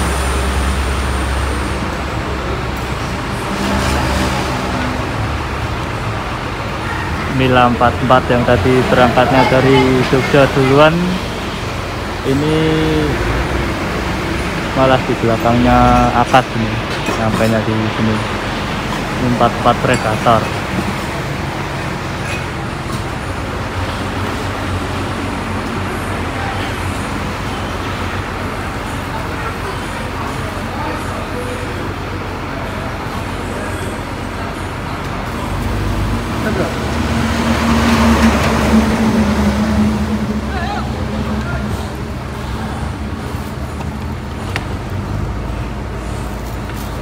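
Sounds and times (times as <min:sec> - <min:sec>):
bus engine idling: 0:00.0 - 0:47.0.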